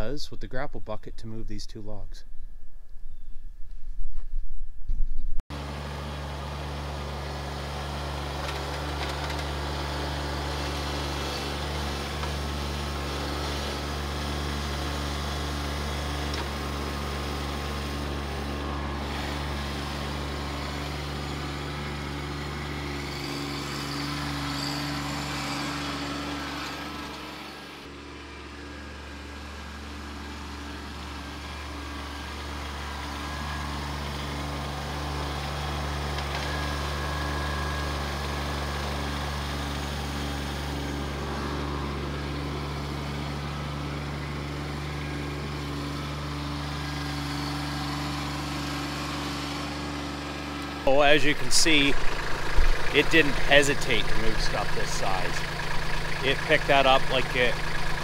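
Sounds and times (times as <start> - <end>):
diesel tractor engine running: 5.5 - 58.0.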